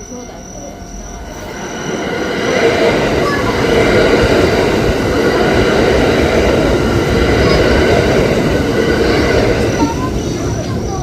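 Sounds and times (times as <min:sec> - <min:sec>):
crossing warning bell: 0:00.0 - 0:11.0
wheels rumbling on rail: 0:00.0 - 0:11.0.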